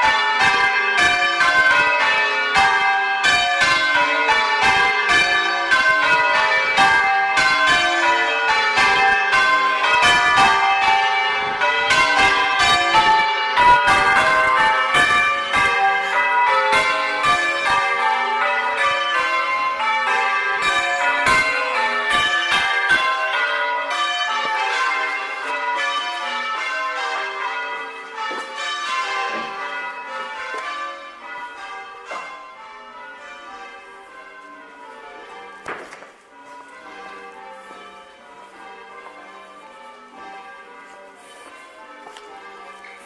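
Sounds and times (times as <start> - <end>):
church bells change ringing: 0.0 - 43.0.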